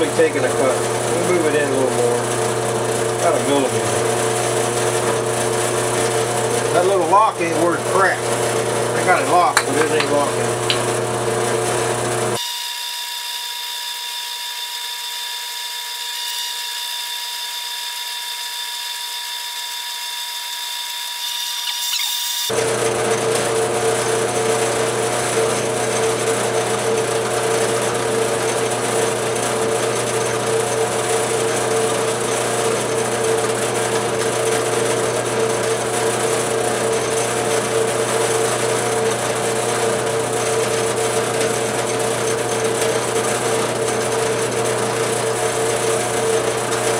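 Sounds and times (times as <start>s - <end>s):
drill press milling nylon: 0.0s - 46.9s.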